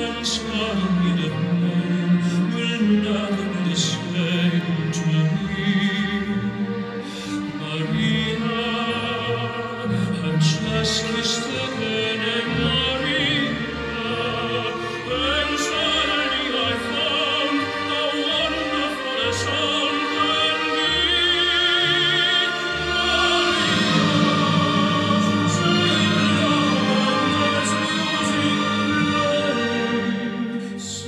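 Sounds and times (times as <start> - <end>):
opera singer with vibrato: 0.0 - 31.0
orchestra: 0.0 - 31.0.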